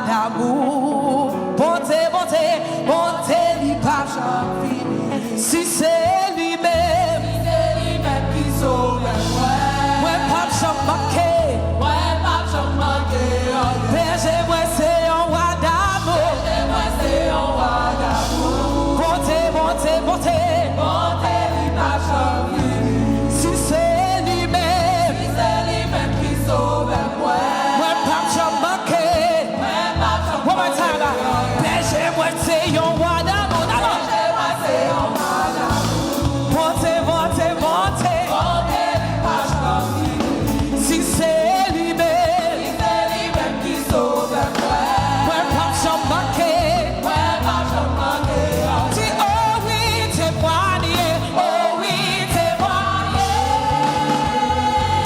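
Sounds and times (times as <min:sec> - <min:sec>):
praise team singing with band: 0:00.0 - 0:55.0.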